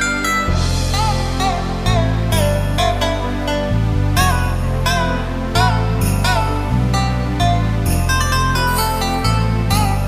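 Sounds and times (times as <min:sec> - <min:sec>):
low bass accompaniment: 0:00.0 - 0:10.0.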